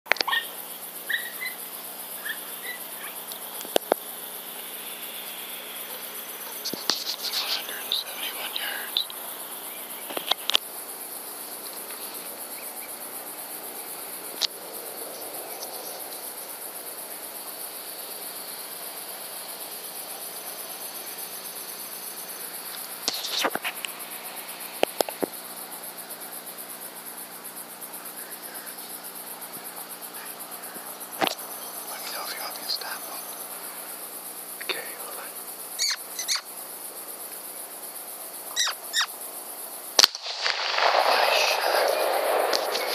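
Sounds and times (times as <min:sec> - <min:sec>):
crickets chirping: 0:00.1 - 0:42.9.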